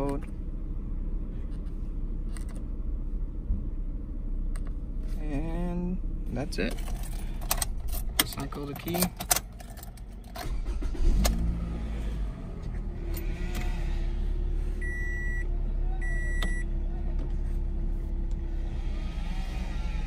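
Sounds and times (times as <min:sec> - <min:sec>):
car engine cranking and idling: 0:00.0 - 0:20.0.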